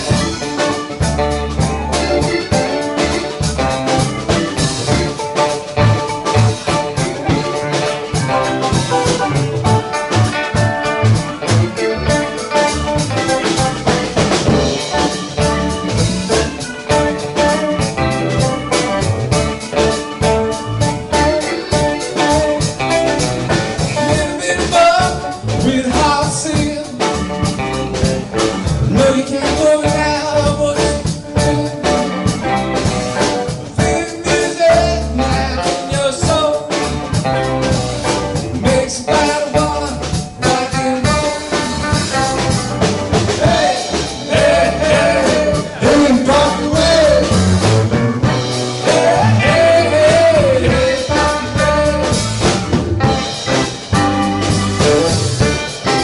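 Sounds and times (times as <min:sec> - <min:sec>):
live funk band playing: 0:00.0 - 0:56.0.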